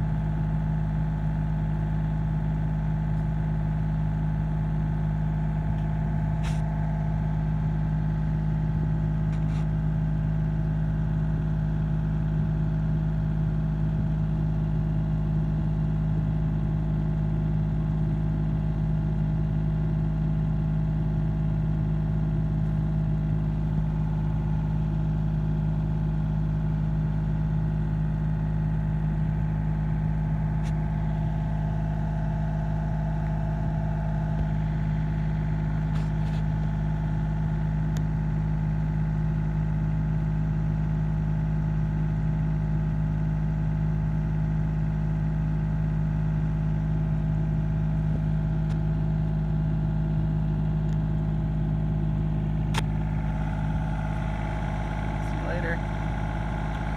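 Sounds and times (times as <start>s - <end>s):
engine idling: 0.0s - 56.9s.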